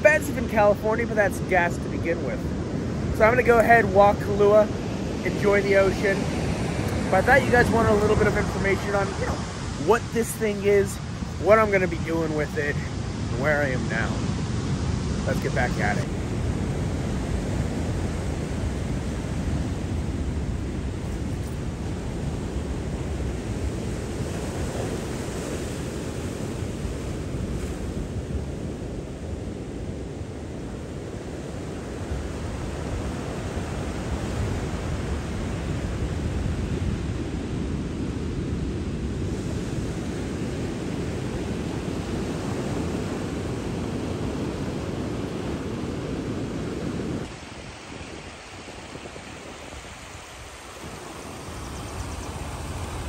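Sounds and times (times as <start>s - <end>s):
surf washing over rocks: 0.0s - 53.0s
wind on microphone: 0.0s - 53.0s.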